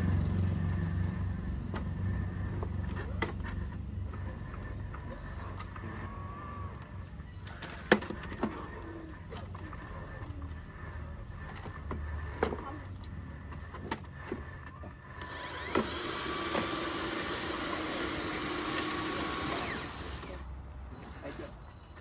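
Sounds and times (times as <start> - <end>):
small electric motor whining: 0.0 - 21.4.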